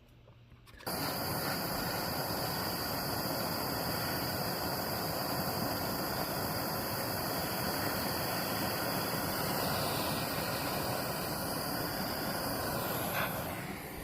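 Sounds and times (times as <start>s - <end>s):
gas torch flame hissing: 0.8s - 14.0s.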